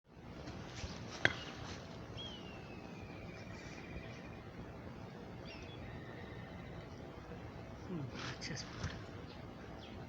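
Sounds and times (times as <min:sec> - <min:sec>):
steady background hiss: 0:00.1 - 0:10.0.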